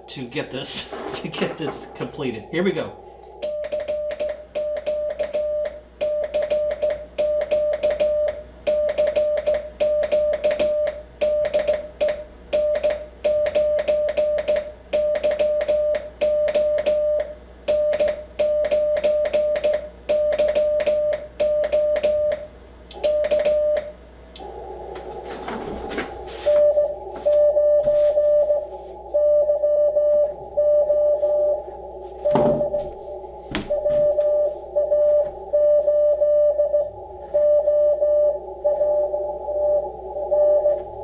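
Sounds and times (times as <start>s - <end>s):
morse code tone: 3.4s - 22.4s, 26.2s - 33.0s, 33.7s - 40.9s.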